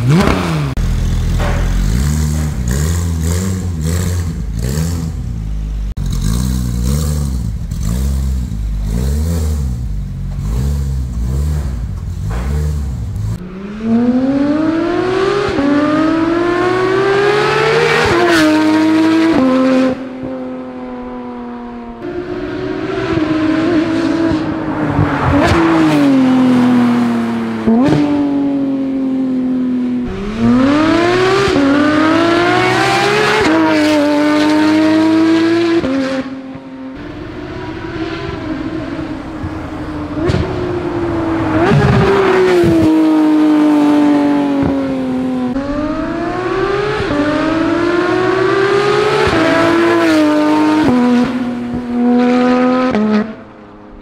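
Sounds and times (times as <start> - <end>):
sports car accelerating hard: 0.0 - 5.3, 6.0 - 54.0
sports car engine revving: 0.0 - 54.0.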